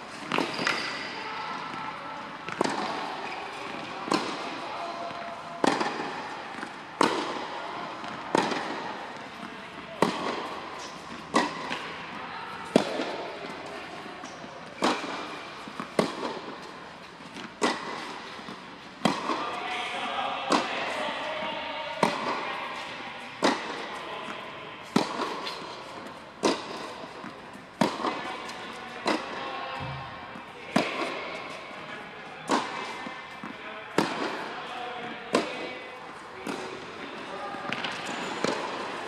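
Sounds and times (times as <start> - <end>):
tennis balls bouncing on court: 0.1 - 19.5, 21.9 - 39.0
tennis balls struck by racquets: 0.1 - 19.6, 20.5 - 39.0.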